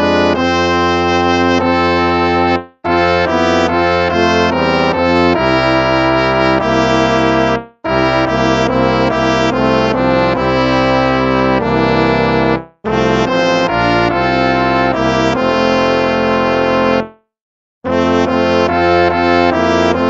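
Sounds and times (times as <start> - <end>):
brass hymn music: 0.0 - 17.3, 17.9 - 20.0.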